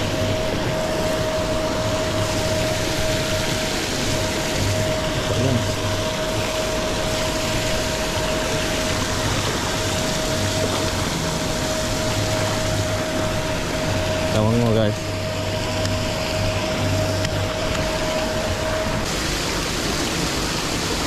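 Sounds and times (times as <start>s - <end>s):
aerators churning water: 0.0s - 21.0s
steady hum: 0.0s - 21.0s.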